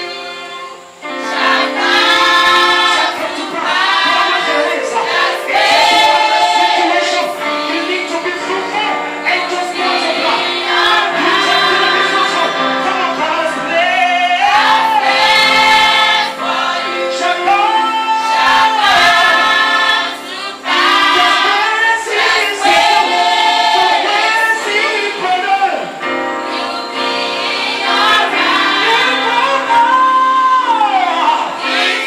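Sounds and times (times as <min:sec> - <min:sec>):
female choir singing gospel: 0:00.0 - 0:32.0.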